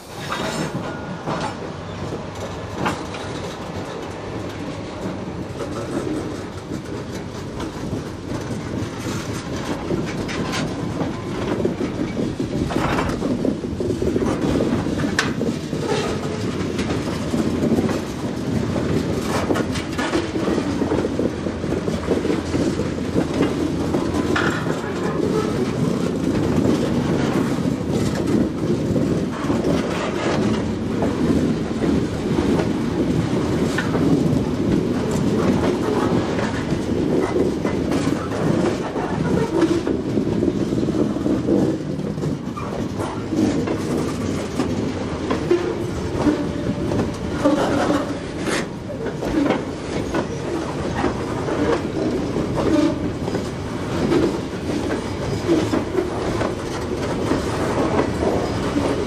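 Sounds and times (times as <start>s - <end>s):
diesel locomotives running: 0.0s - 59.0s
railcar wheels clacking: 0.0s - 59.0s.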